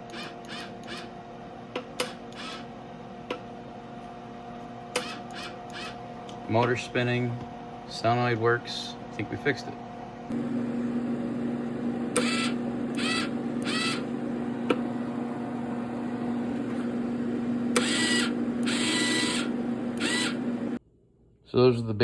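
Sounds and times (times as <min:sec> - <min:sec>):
welder wire feed motor hum: 0:00.0 - 0:20.8.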